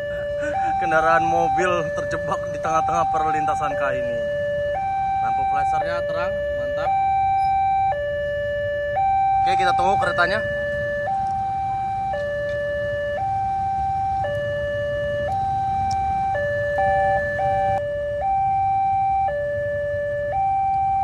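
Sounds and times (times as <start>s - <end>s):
level crossing alarm two-tone: 0.0s - 21.0s.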